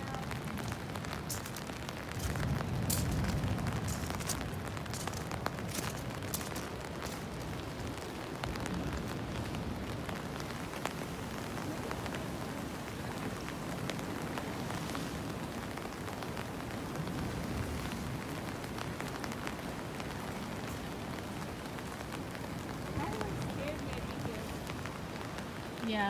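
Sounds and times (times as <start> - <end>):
raindrops ticking close by: 0.0 - 26.0
small waves breaking on rocks: 0.0 - 26.0
steady rain: 0.0 - 26.0.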